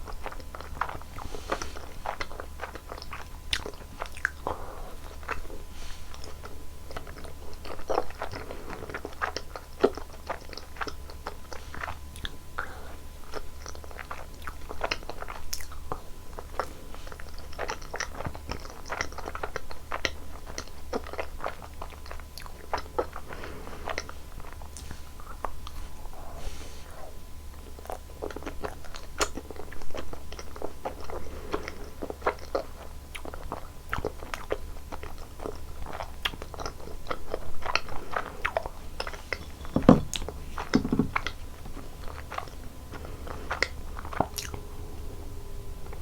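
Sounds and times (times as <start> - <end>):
chewing ice cream: 0.0 - 46.0.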